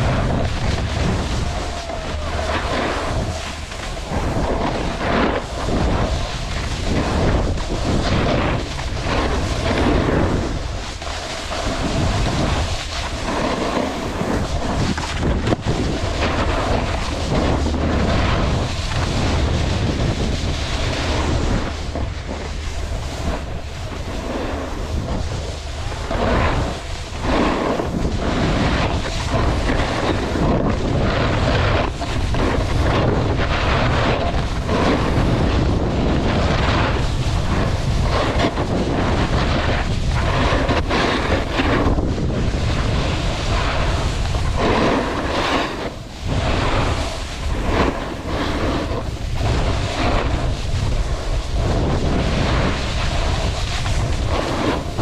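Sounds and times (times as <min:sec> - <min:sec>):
snowboard scraping over snow: 0:00.0 - 0:55.0
wind rushing over microphone: 0:00.0 - 0:55.0.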